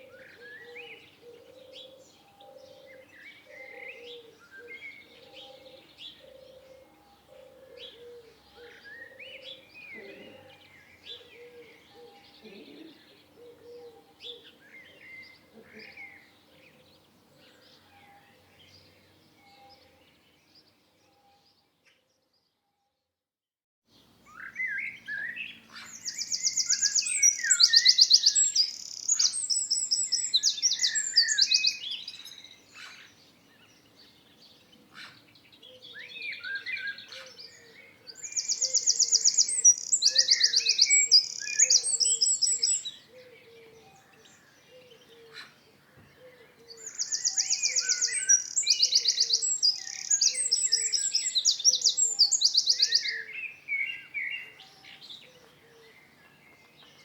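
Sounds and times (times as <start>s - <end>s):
songbirds trilling and chirping: 0.0s - 22.6s, 23.9s - 57.0s.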